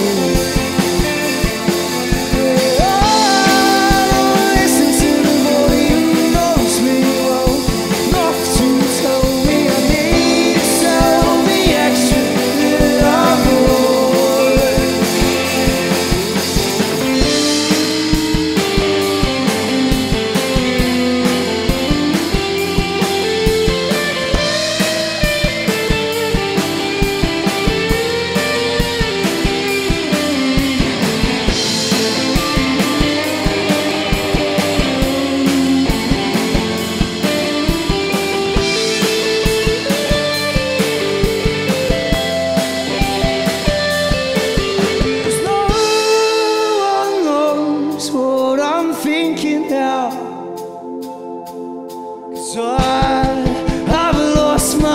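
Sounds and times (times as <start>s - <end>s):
drum kit beat: 0.0s - 48.0s, 51.0s - 54.9s
bass guitar: 0.0s - 54.9s
electric guitar lead: 0.0s - 54.9s.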